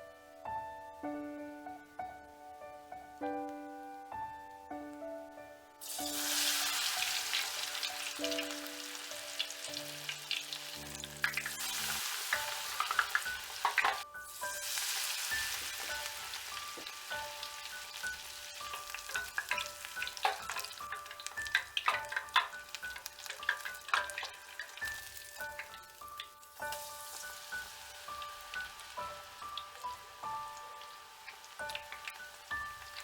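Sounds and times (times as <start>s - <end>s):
soft background music: 0.0s - 33.0s
deep-frying sizzle with pops: 5.8s - 33.0s.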